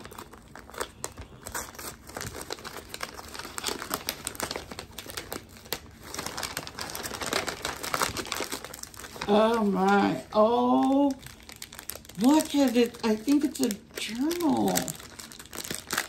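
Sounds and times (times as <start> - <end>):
wrapping paper crinkling: 0.0 - 16.0.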